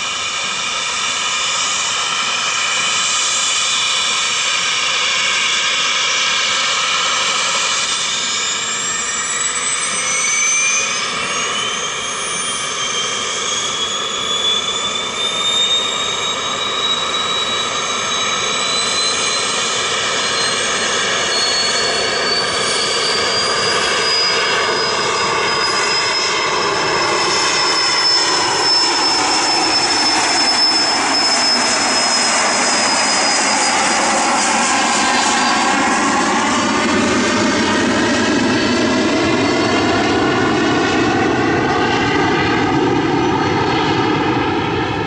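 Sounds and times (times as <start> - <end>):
jet engines whining: 0.0 - 45.0
jet takeoff roar: 0.0 - 45.0.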